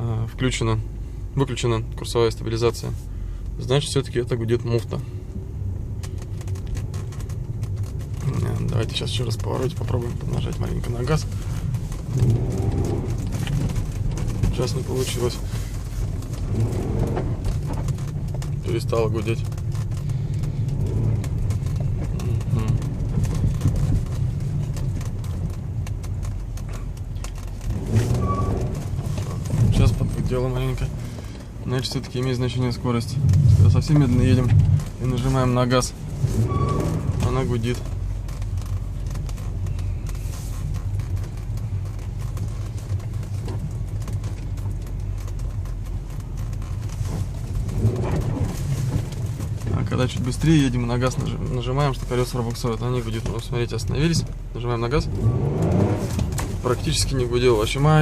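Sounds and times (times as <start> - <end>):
car engine and tyres rumbling: 0.0 - 58.0
clicks and crackles: 1.5 - 58.0.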